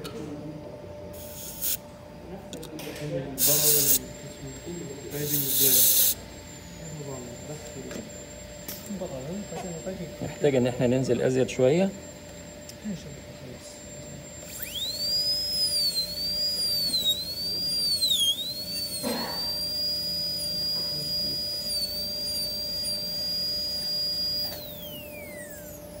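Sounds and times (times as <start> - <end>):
dental drill whine: 1.1 - 1.9, 2.9 - 26.0.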